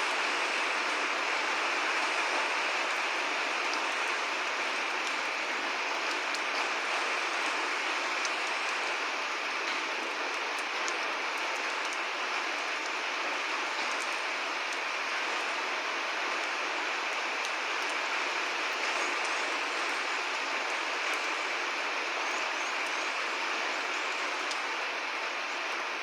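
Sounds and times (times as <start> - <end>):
steady rain falling: 0.0 - 26.0
sharp raindrop ticks: 2.0 - 15.6, 16.2 - 25.9.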